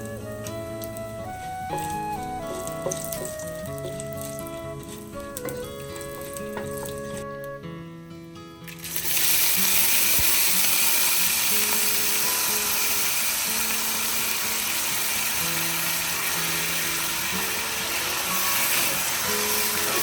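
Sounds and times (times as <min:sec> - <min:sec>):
rice sizzling in hot oil: 0:00.0 - 0:07.2, 0:08.7 - 0:20.0
background music: 0:00.0 - 0:20.0.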